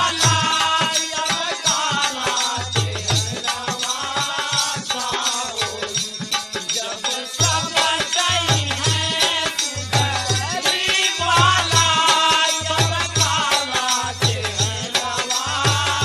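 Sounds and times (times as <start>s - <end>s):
drum beats: 0.0s - 5.2s, 5.9s - 16.0s
rattling percussion: 0.0s - 16.0s.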